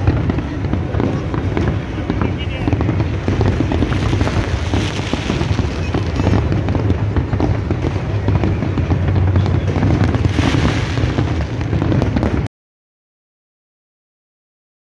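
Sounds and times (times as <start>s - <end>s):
fireworks booming and cracking: 0.0s - 12.5s.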